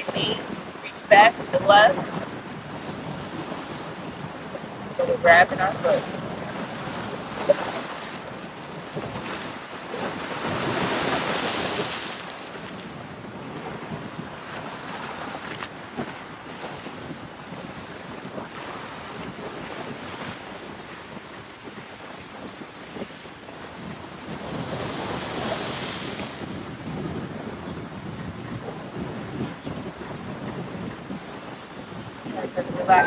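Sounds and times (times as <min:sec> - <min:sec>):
wind on microphone: 0:00.0 - 0:33.0.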